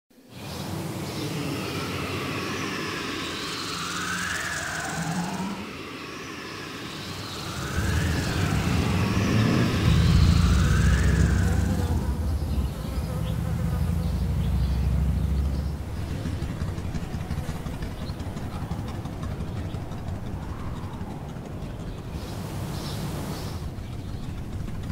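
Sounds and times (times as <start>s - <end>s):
whistling calls: 0.4s - 24.8s
low mechanical rumble: 0.6s - 24.9s.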